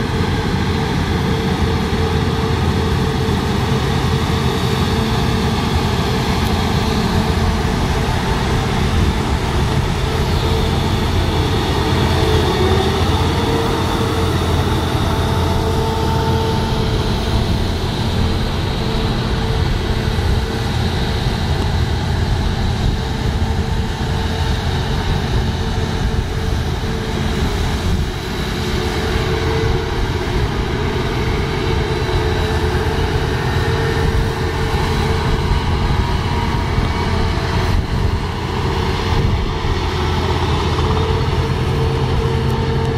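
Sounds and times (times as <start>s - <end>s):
combine harvester engine drone: 0.0s - 42.9s.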